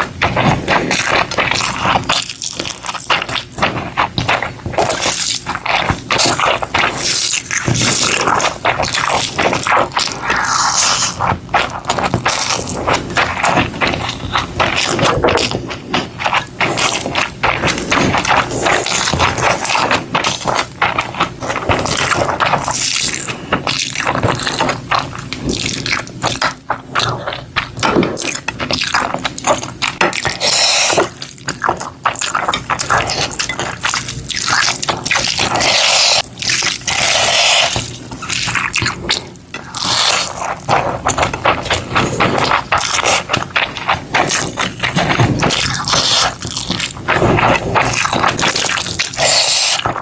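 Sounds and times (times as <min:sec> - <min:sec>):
liquid dripping and sloshing: 0:00.0 - 0:50.0.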